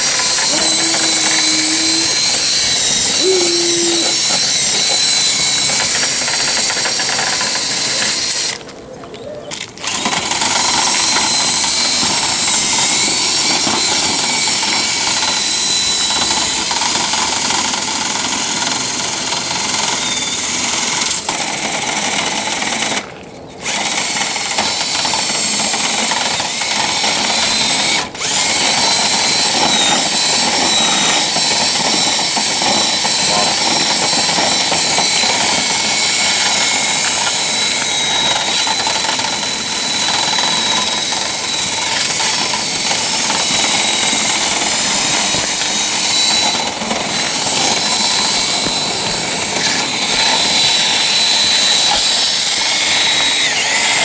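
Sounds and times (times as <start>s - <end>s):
power tool motor whining: 0.0s - 8.6s, 9.5s - 54.0s.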